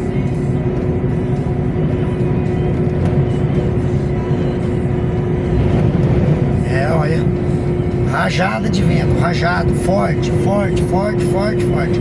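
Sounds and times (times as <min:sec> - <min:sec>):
music on car stereo: 0:00.0 - 0:12.0
truck engine and tyres droning: 0:00.0 - 0:12.0.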